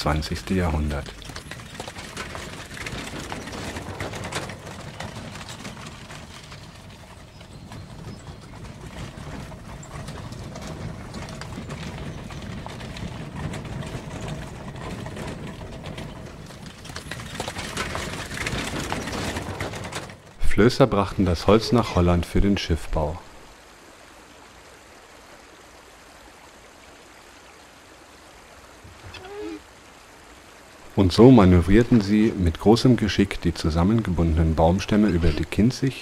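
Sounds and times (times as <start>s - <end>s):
horse hooves walking on track: 0.0s - 22.6s, 28.2s - 36.0s.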